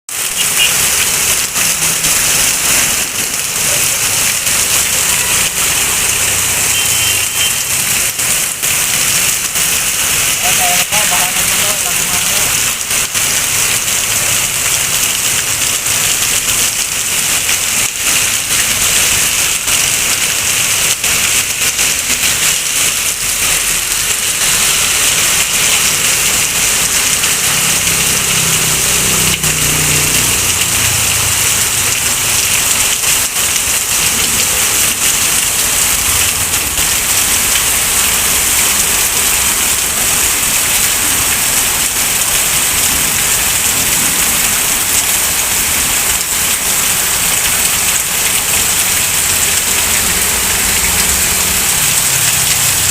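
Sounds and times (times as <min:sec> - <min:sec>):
heavy rain pattering: 0:00.1 - 0:52.9.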